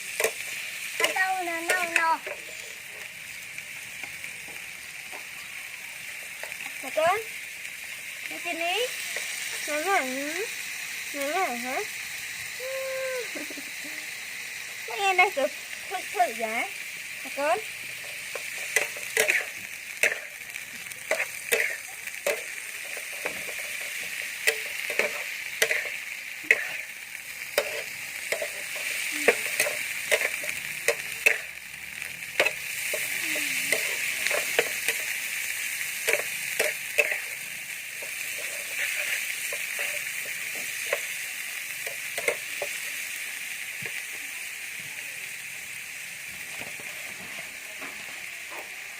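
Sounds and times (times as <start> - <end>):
food sizzling in a pan: 0.0 - 48.9.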